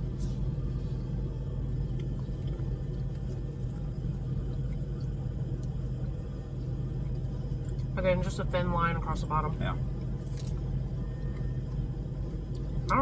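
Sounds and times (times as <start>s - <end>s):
motor vehicle rumble: 0.0s - 13.0s.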